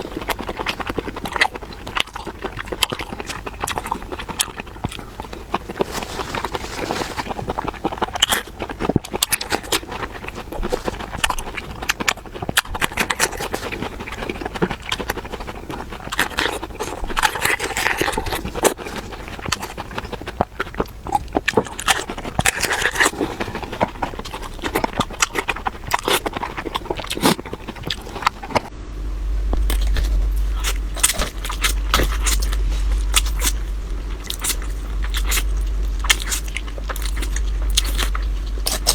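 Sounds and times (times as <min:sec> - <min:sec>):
wet chewing and biting: 0:00.0 - 0:28.7, 0:29.4 - 0:38.9
steady low hum: 0:00.0 - 0:38.9.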